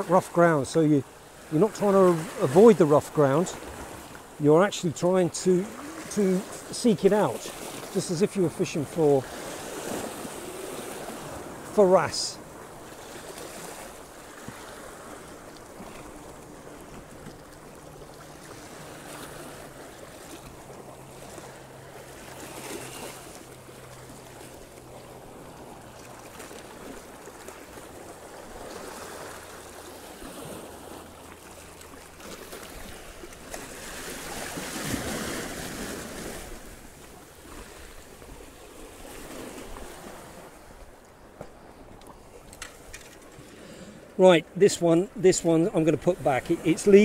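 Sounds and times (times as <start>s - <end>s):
faint motorboat engine hum: 0.0s - 47.0s
waves lapping against rocks: 0.0s - 47.0s.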